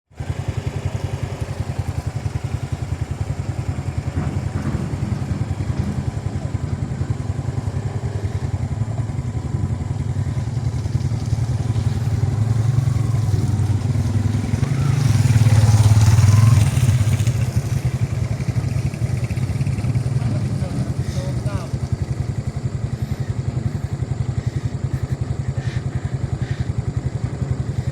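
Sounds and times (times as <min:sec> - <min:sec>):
small motorcycle engine running: 0:00.1 - 0:27.9.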